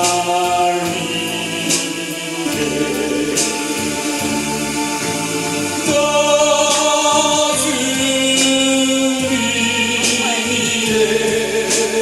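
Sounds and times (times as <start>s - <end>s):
man singing a hymn: 0.0s - 4.4s, 5.8s - 12.0s
electronic keyboard chords: 0.0s - 12.0s.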